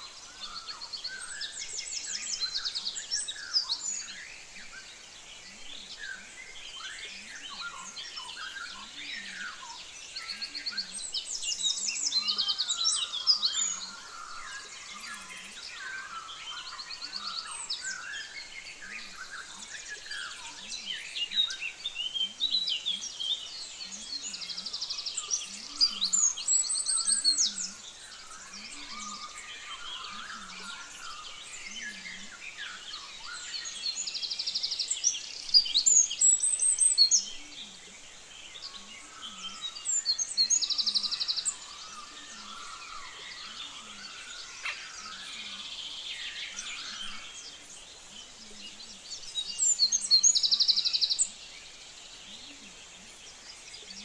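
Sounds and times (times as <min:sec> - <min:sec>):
songbirds singing and trilling: 0:00.0 - 0:54.0.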